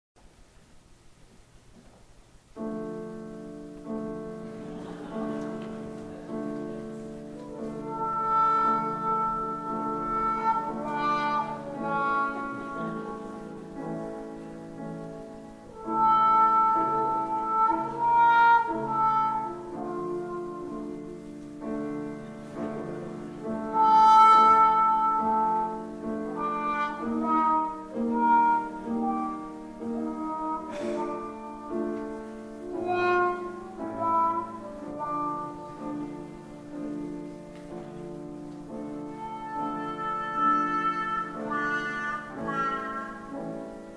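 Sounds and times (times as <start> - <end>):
piano accompaniment: 2.5 - 43.9
trumpet: 2.8 - 43.9
trombone: 3.9 - 43.9.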